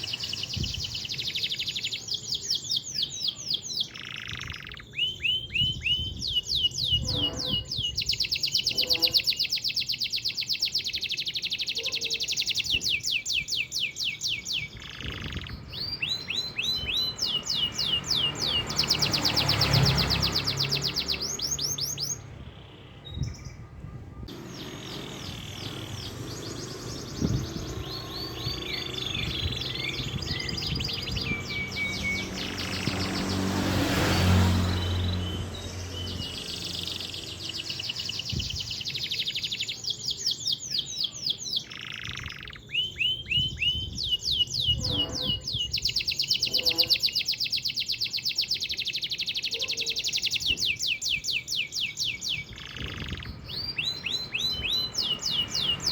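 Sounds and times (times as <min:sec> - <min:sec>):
canary trilling: 0:00.0 - 0:23.6, 0:24.3 - 0:55.9.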